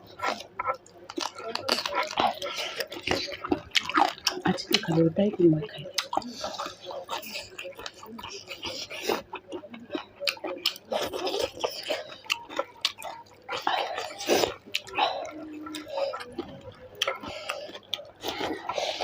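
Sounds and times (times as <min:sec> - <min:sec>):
wet chewing and slurping: 0:00.0 - 0:19.0.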